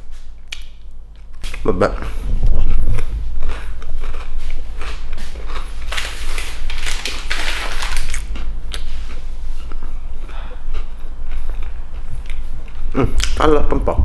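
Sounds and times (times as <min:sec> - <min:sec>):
person chewing crunchy toasted bread: 0:00.2 - 0:13.3.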